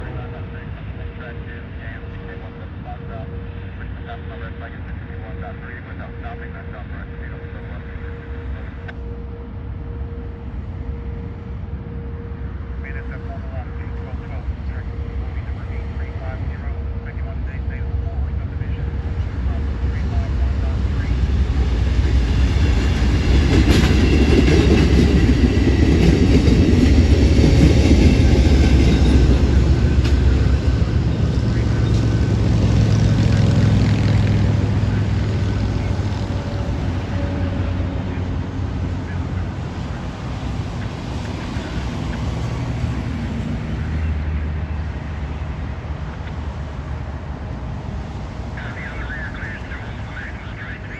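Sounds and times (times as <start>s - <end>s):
diesel locomotive drone: 0.0s - 50.9s
train rumbling past: 0.0s - 50.9s.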